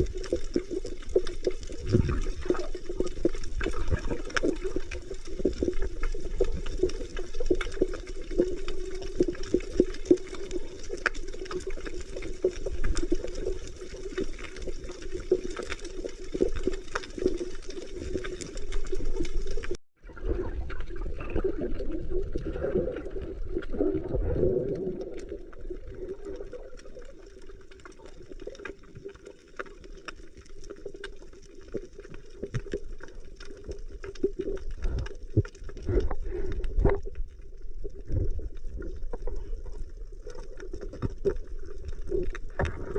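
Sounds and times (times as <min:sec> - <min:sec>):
crackle of fine clicks: 0:00.0 - 0:19.8, 0:20.7 - 0:42.9
muffled underwater rush: 0:00.0 - 0:42.9.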